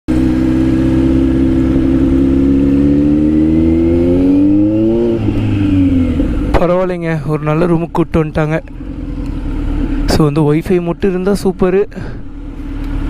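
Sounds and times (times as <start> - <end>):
motorcycle engine accelerating: 0.1 - 13.0.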